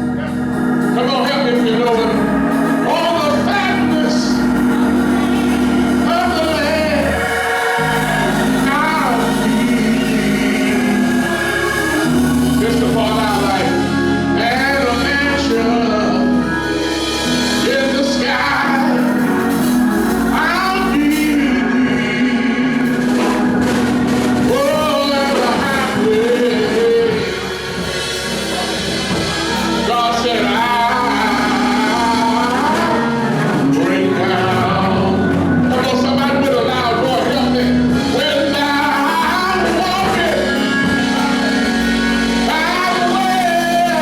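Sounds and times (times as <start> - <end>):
person singing long sliding lines: 0.0 - 16.7, 17.5 - 44.0
instrumental backing low notes: 0.0 - 44.0.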